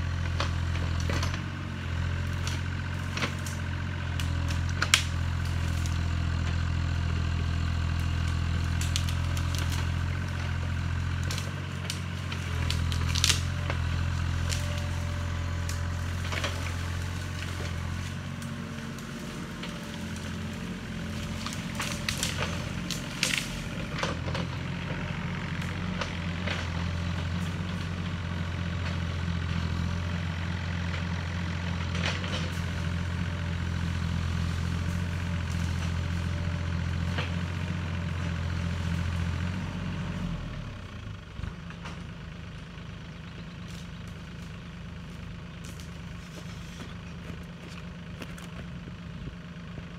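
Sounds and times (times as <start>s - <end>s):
diesel engine running: 0.0s - 49.9s
branches cracking and snapping: 0.2s - 42.7s, 43.6s - 48.9s.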